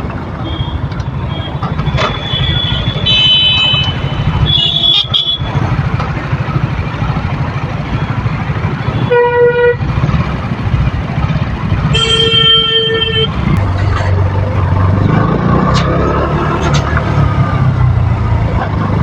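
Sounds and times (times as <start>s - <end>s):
motorcycle engine running: 2.2s - 19.0s.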